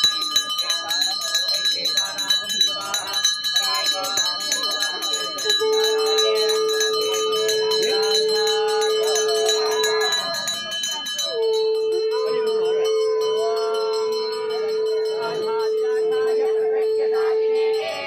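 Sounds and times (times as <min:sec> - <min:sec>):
bell ringing: 0:00.0 - 0:18.0
voices: 0:00.0 - 0:18.0.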